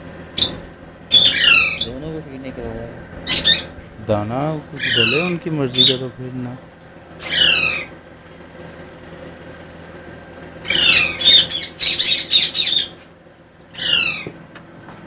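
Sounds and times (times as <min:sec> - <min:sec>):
caged birds squawking: 0:00.0 - 0:14.4.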